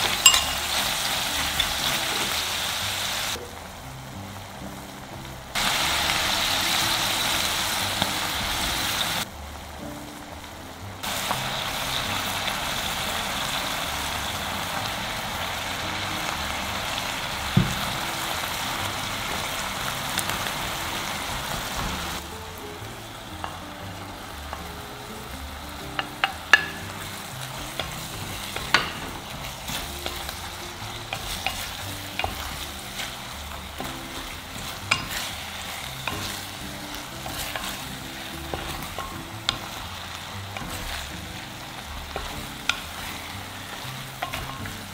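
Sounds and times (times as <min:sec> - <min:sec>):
pork sizzling in a clay pot: 0:00.0 - 0:44.9.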